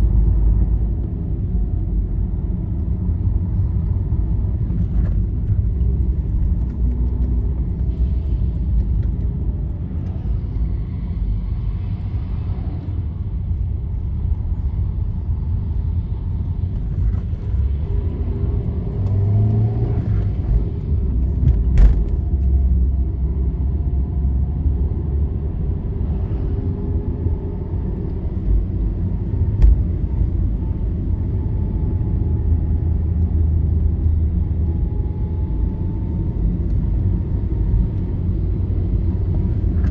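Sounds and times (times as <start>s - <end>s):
vehicle road rumble and engine drone: 0.0s - 39.9s.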